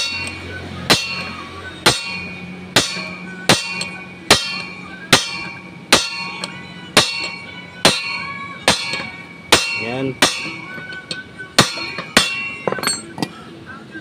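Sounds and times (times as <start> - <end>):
hammer striking metal rod: 0.0 - 13.3
metallic ring: 0.0 - 13.4.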